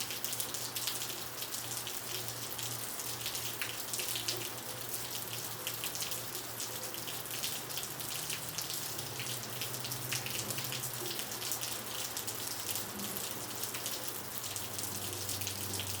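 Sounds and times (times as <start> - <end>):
heavy rain on asphalt: 0.0 - 16.0.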